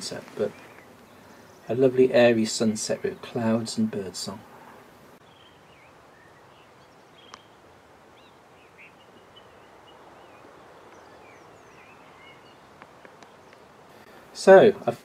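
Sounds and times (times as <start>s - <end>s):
faint birdsong: 0.0s - 15.0s
open-air background hush: 0.0s - 15.0s.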